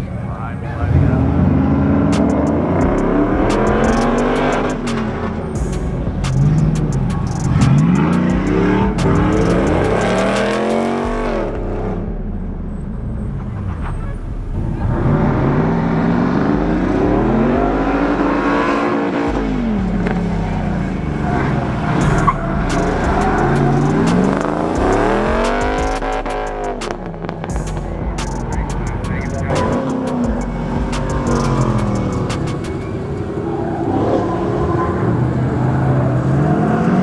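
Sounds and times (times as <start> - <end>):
truck engines revving hard: 0.0 - 37.0.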